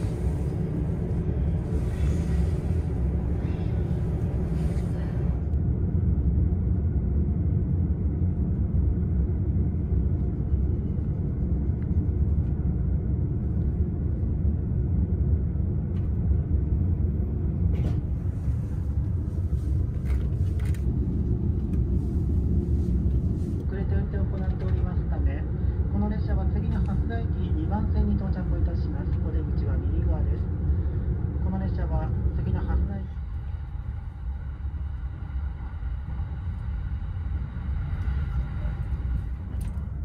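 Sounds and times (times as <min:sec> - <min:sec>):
train rumbling from inside: 0:00.0 - 0:40.0.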